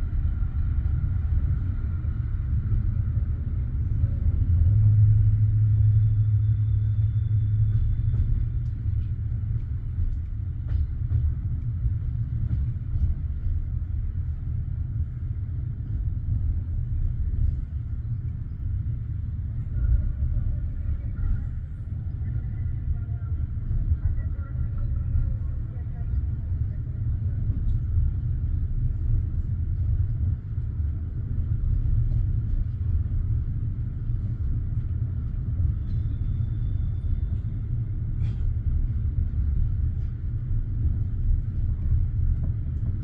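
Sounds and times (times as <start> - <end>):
train rumble inside carriage: 0.0 - 43.0.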